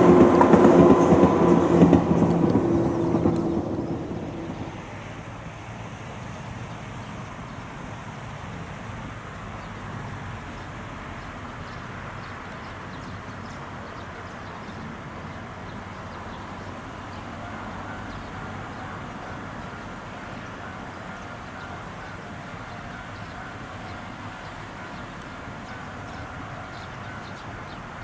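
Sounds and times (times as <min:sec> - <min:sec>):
distant electric train rumble: 0:00.0 - 0:28.0.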